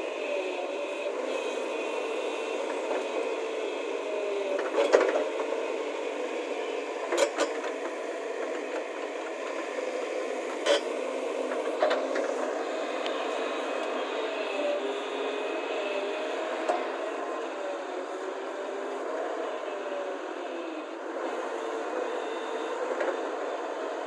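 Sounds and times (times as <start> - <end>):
digging machine diesel engine running: 0.0 - 24.0.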